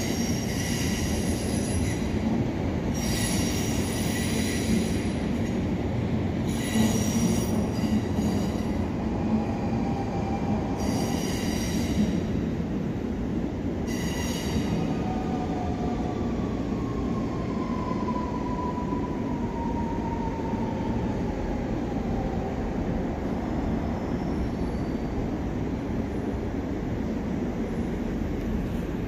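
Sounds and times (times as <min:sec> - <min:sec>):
low rumble of train: 0:00.0 - 0:29.0.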